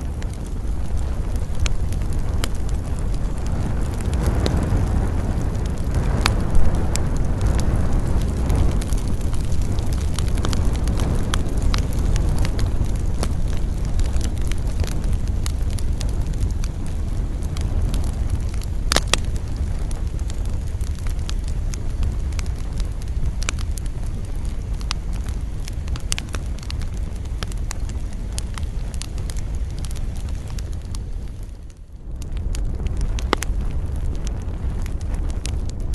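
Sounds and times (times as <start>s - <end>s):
campfire crackling and popping: 0.0s - 35.9s
low fire rumble: 0.0s - 35.9s.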